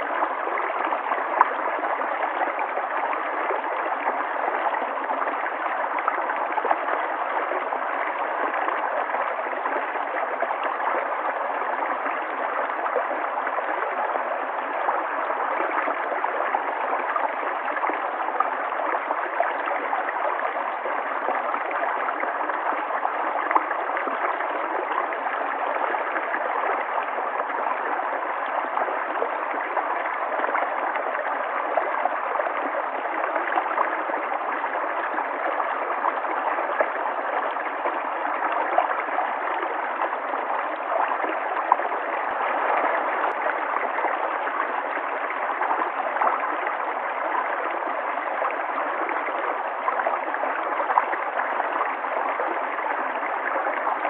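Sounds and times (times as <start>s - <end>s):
water splashes and gurgles: 0.0s - 54.0s.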